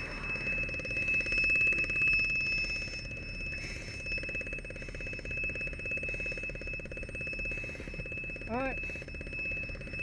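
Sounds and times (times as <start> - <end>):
fast rattling pulse: 0.0 - 10.0
high-pitched alarm tone: 0.0 - 10.0.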